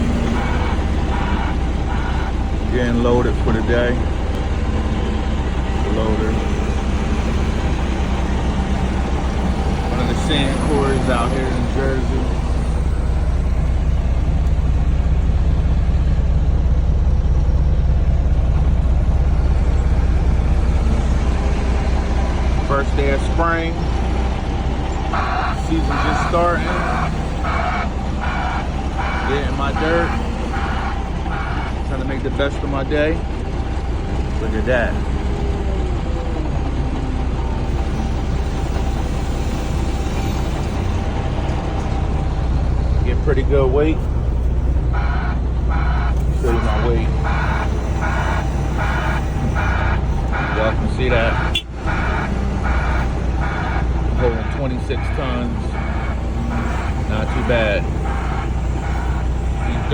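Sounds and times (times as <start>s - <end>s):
diesel engine rumbling: 0.0s - 59.9s
faint steady whine: 0.0s - 59.9s.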